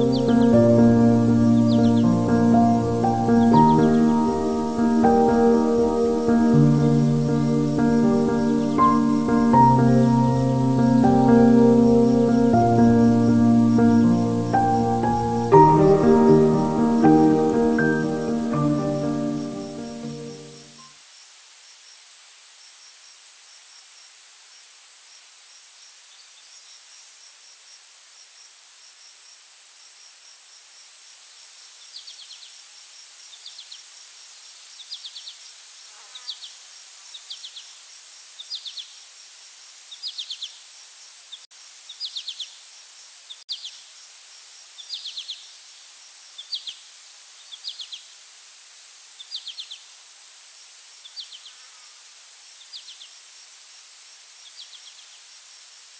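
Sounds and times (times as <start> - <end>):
insect high-pitched buzz: 0.0 - 55.9.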